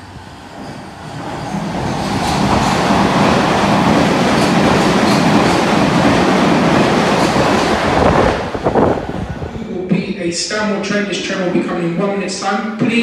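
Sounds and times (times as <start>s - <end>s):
train rumbling through station: 0.0s - 13.0s.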